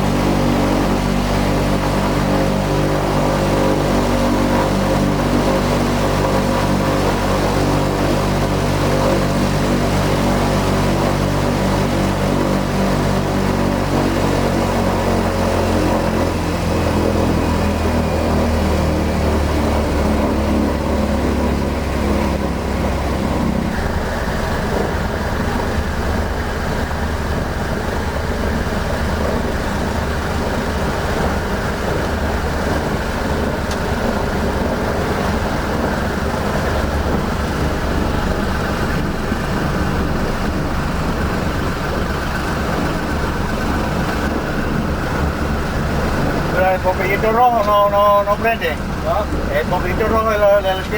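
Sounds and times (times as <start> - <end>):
radial piston engines running: 0.0 - 50.9.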